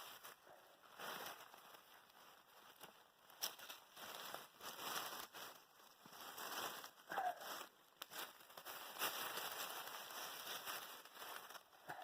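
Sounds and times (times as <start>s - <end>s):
leaves and soil rustling: 0.0s - 12.0s.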